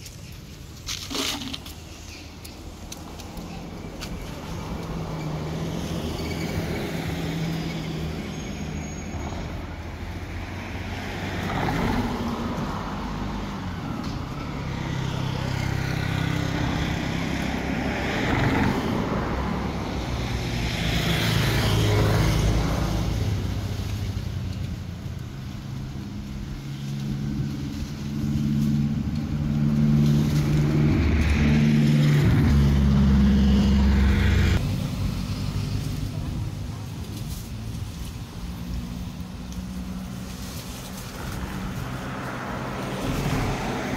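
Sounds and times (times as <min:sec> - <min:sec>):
vehicles passing: 0:00.0 - 0:43.9.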